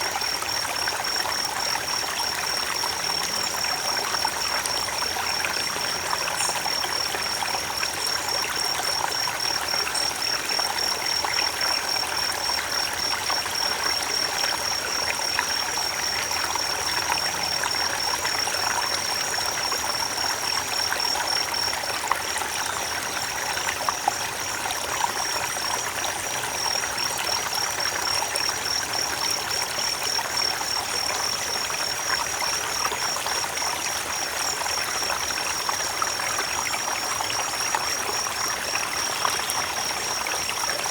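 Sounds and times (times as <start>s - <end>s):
creek water over rocks: 0.0s - 40.9s.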